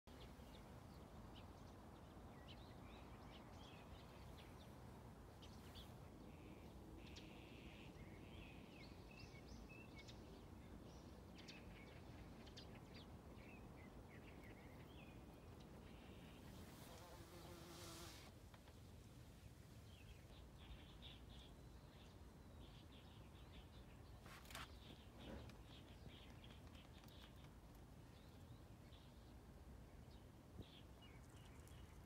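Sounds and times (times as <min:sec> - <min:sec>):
faint birds chirping: 0:00.1 - 0:32.0.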